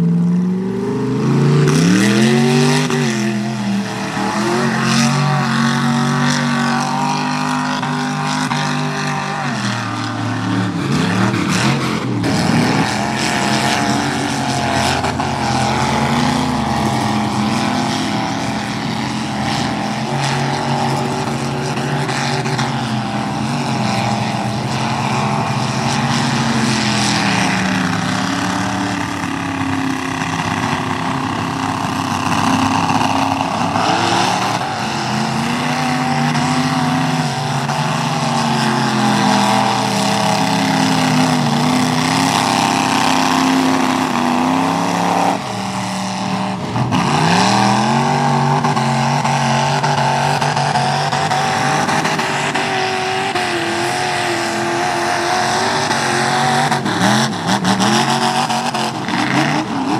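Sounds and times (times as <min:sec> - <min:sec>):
engine revving hard: 0:00.0 - 0:59.9.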